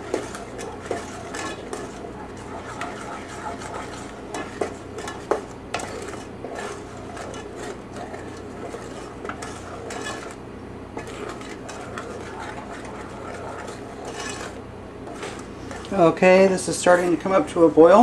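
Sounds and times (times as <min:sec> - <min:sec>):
wooden spoon scraping saucepan: 0:00.0 - 0:17.4.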